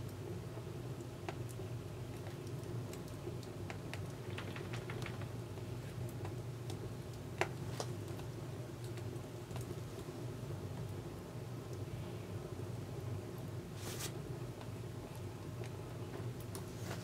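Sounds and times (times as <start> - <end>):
firewood crackling and popping: 0.0 - 12.0, 12.6 - 17.0.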